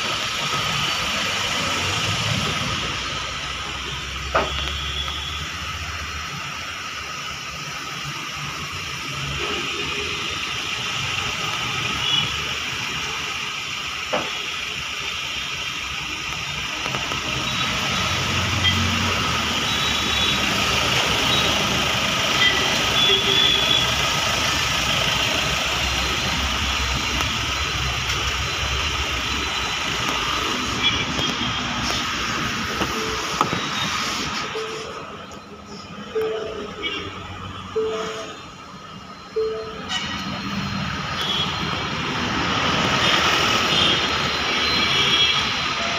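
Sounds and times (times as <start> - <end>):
diesel engine idling: 0.0 - 44.6.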